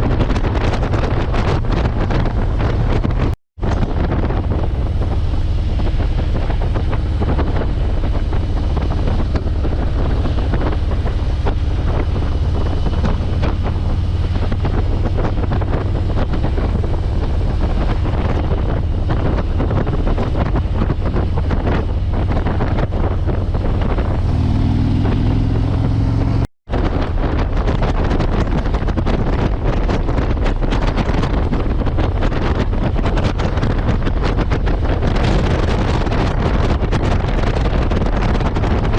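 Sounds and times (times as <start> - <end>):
motorcycle engine rumble: 0.0 - 38.9
wind buffeting on microphone: 0.0 - 38.9.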